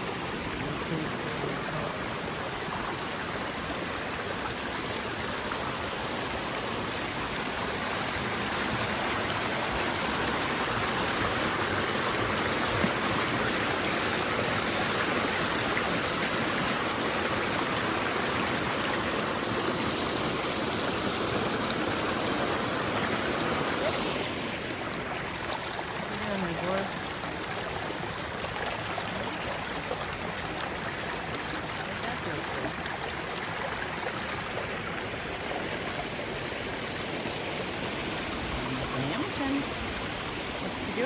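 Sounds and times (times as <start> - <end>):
stream flowing water: 0.0 - 41.0.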